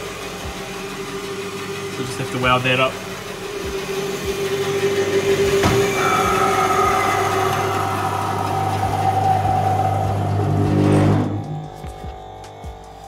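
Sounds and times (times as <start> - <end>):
bandsaw hum and whine: 0.0 - 13.0
dust extraction running: 0.0 - 13.0.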